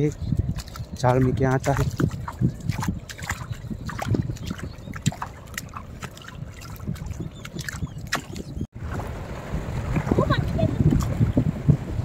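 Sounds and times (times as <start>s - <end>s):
footsteps wading through water and mud: 0.0s - 11.4s.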